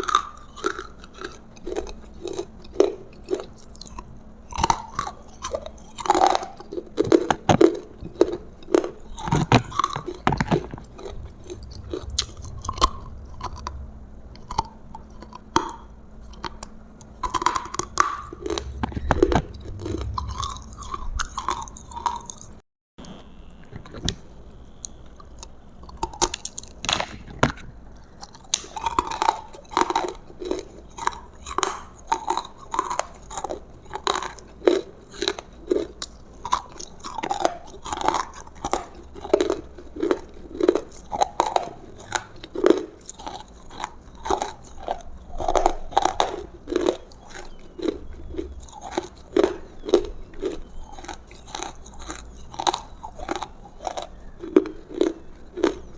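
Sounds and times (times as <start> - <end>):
chewing crunchy food: 0.0 - 22.6, 23.6 - 55.9.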